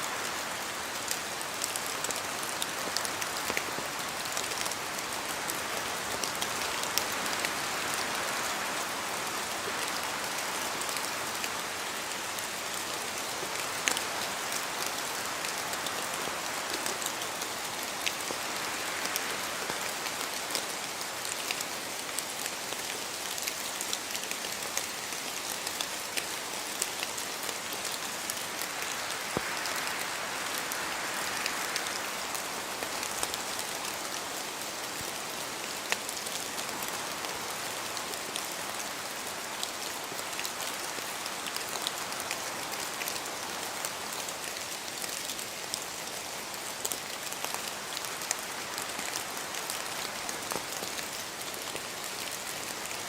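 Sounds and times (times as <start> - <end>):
steady rain in a forest: 0.0 - 53.0.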